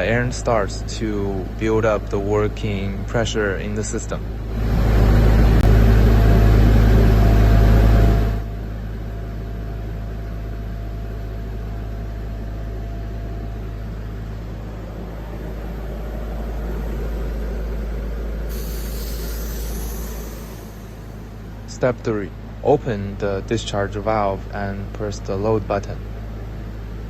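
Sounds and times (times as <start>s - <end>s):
diesel air compressor engine running: 0.0s - 27.0s.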